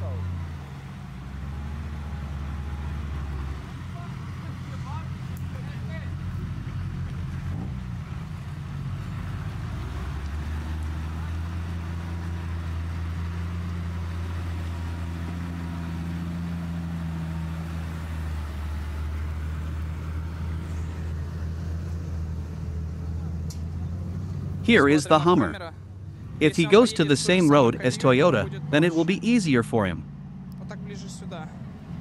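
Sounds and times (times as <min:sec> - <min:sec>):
truck engine under load: 0:00.0 - 0:32.0.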